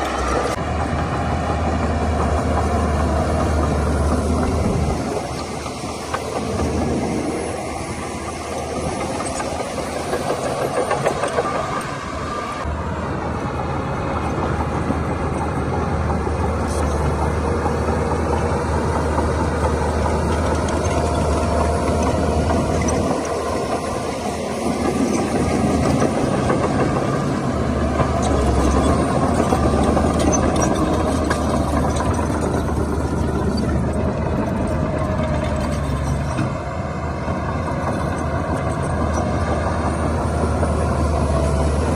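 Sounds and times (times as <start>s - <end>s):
heavy machinery diesel engine: 0.0s - 41.9s.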